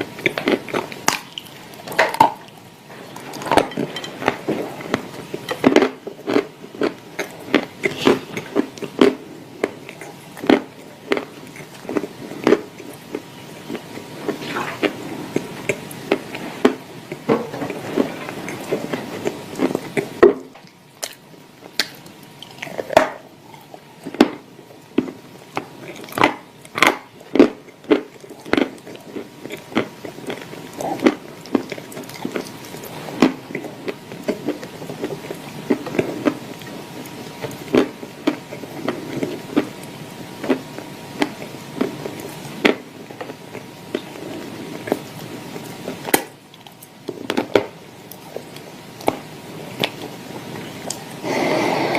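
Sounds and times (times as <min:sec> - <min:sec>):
soft chewing: 0:00.0 - 0:51.6.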